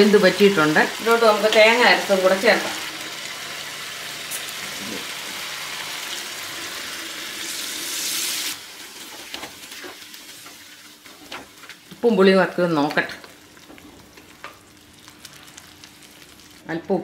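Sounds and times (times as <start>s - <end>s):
curry simmering and sizzling: 0.0s - 12.0s, 12.9s - 16.6s.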